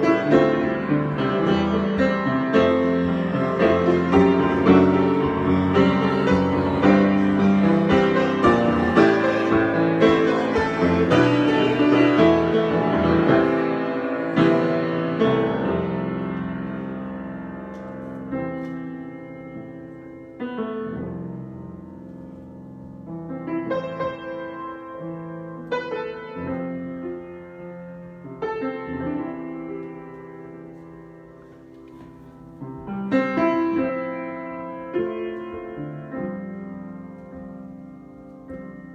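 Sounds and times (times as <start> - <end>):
solo piano improvisation: 0.0 - 38.9.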